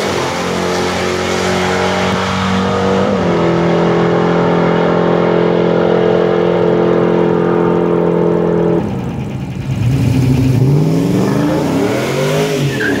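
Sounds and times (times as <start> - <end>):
racing car engines at full throttle: 0.0 - 13.0.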